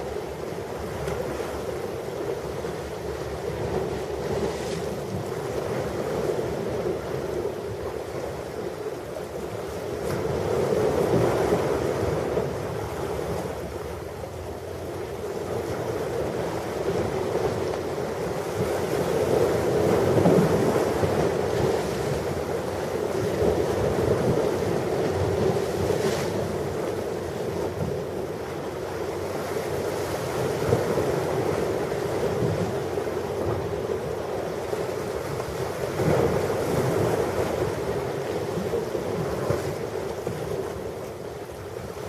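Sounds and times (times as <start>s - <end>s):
ocean surf washing on beach: 0.0s - 42.0s.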